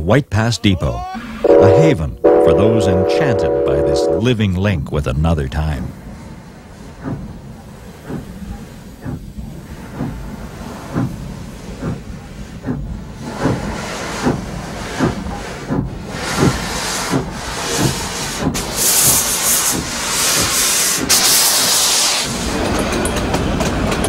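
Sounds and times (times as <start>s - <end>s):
steam hissing from cylinder cocks: 1.2s - 24.0s
steam locomotive exhaust chuffs: 1.2s - 24.0s.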